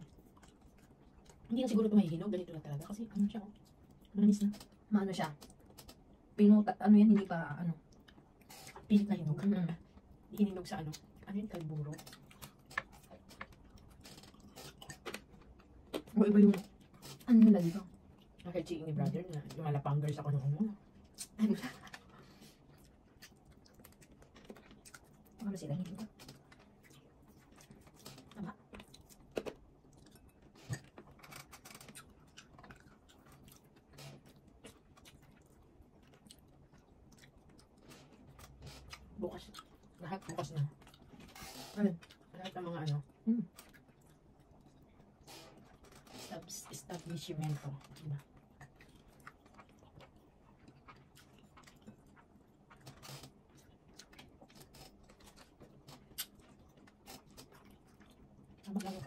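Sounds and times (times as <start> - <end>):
people chewing: 7.9 - 19.6, 20.3 - 59.0.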